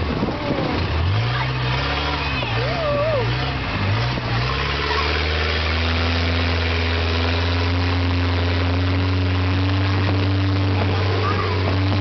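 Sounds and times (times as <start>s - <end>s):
speedboat engine drone: 0.0s - 12.0s
wind: 0.0s - 12.0s.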